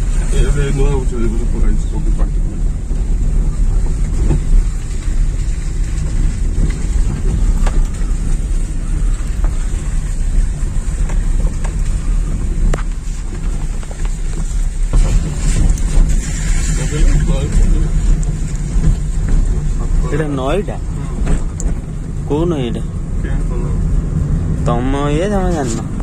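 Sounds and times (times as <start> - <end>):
vehicle road noise: 0.0 - 26.0.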